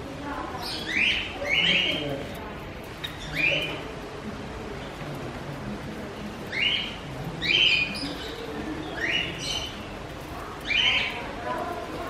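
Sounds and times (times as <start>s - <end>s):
small birds chirping harshly: 0.4s - 12.0s.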